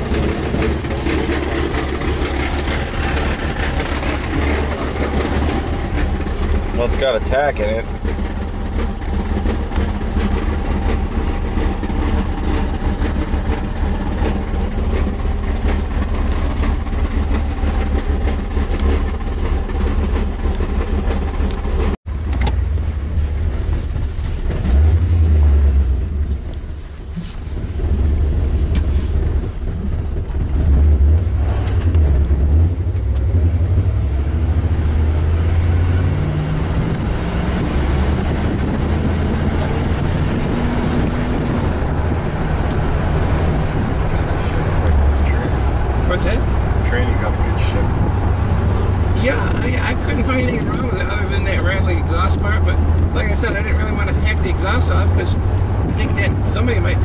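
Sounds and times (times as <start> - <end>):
car engine running: 0.0 - 57.0
road noise: 0.0 - 57.0.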